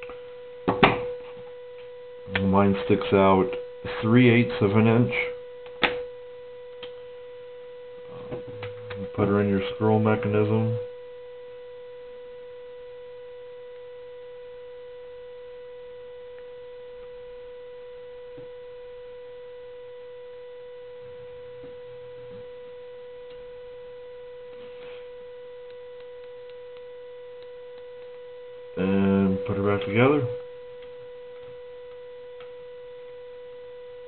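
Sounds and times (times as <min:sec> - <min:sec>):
steady electrical buzz: 0:00.0 - 0:34.0.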